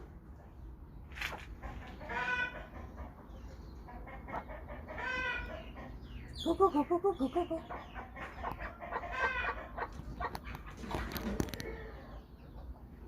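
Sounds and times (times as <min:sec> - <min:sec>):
chickens calling: 0:00.4 - 0:13.0.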